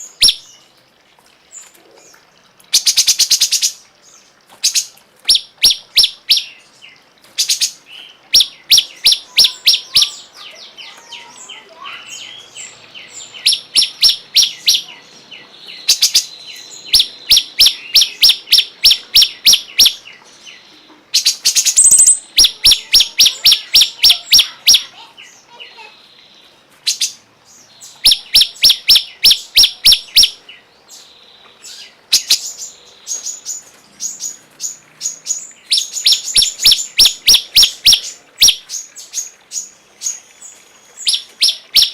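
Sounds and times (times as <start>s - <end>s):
songbird calling sharp notes: 0.0s - 0.7s, 1.5s - 41.9s
soft bird twittering: 1.5s - 41.9s.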